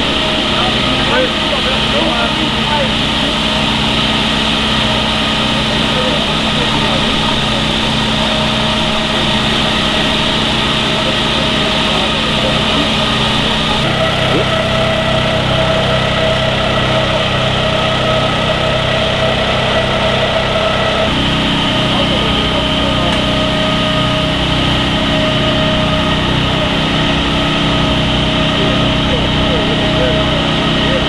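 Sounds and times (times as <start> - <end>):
constant whine: 0.0 - 31.0
vehicle engines idling: 0.0 - 31.0.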